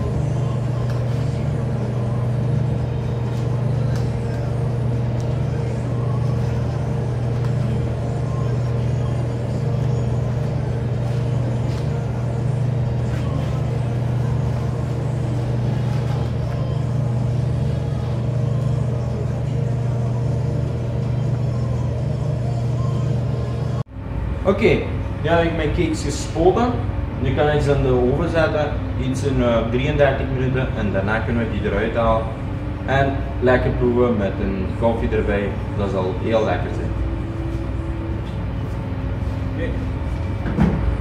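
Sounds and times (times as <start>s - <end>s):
faint higher hum: 0.0s - 41.0s
low machine drone: 0.0s - 41.0s.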